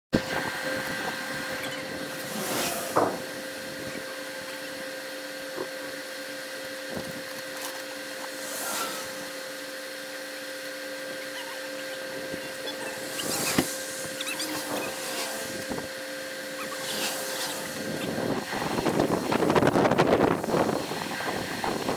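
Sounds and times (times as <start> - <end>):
steady mechanical hum: 0.1 - 21.9
rushing noise: 0.2 - 5.0, 8.1 - 21.9.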